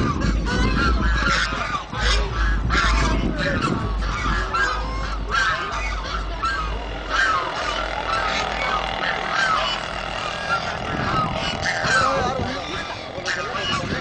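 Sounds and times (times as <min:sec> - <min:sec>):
geese honking: 0:00.0 - 0:14.0
low rumble: 0:00.0 - 0:14.0.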